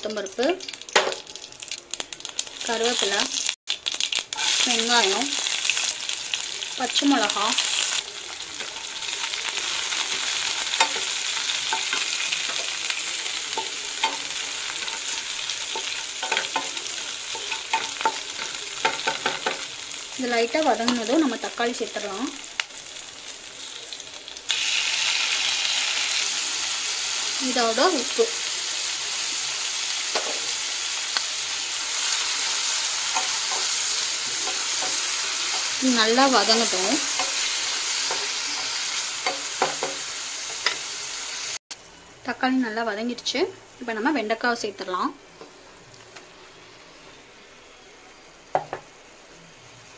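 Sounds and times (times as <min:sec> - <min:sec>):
vegetables sizzling in hot oil: 0:00.0 - 0:41.6.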